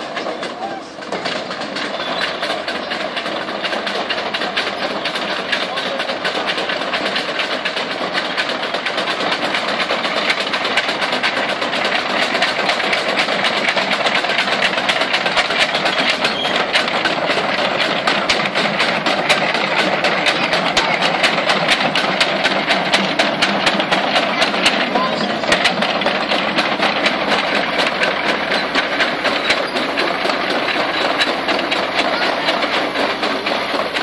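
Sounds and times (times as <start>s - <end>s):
motor running steadily: 0.0s - 34.0s
tank tracks clattering: 0.0s - 34.0s.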